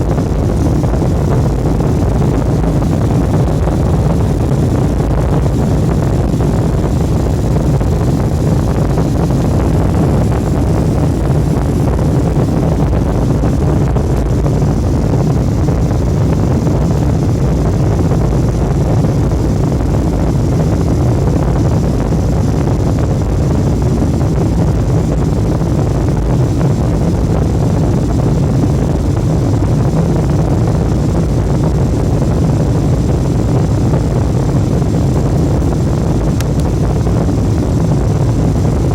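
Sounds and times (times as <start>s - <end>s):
faint high whine: 0.0s - 38.9s
jet engines and airflow rumbling: 0.0s - 38.9s.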